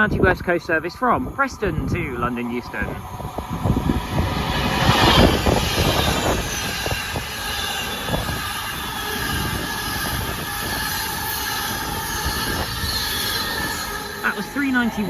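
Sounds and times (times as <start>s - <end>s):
passenger train passing at speed: 0.0s - 15.0s.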